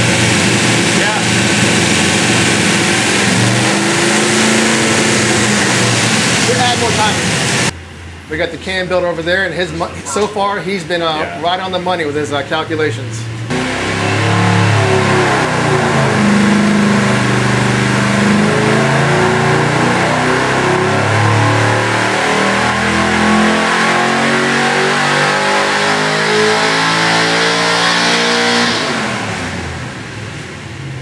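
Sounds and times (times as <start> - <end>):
engine at full throttle: 0.0 - 8.2, 11.2 - 31.0.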